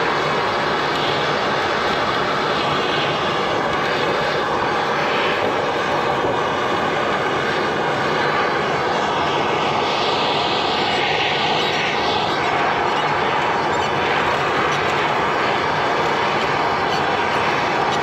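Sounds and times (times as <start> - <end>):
loud steady rushing noise: 0.0 - 18.0.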